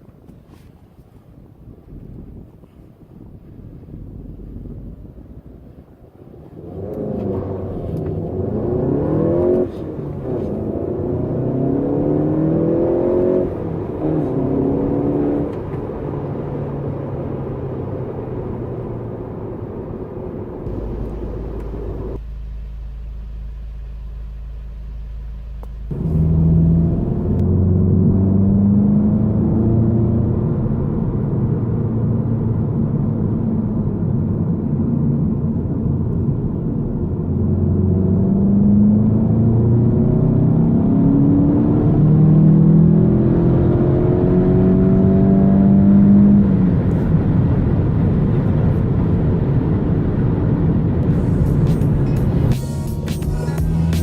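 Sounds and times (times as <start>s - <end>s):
car engine accelerating: 1.9s - 54.0s.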